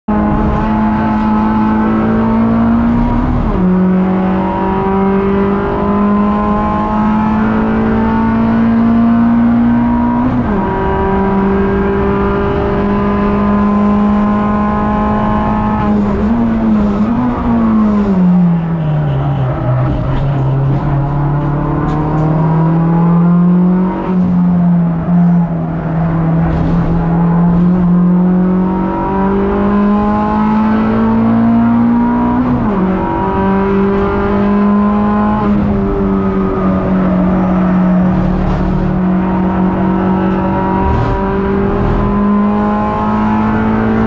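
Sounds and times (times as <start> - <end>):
race car engine at full throttle: 0.0 - 44.0.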